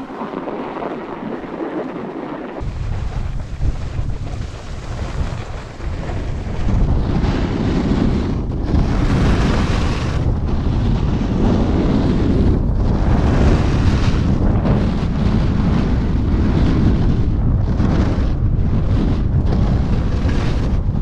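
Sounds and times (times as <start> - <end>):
snowboard scraping over snow: 0.0 - 21.0
wind rushing over microphone: 0.0 - 21.0.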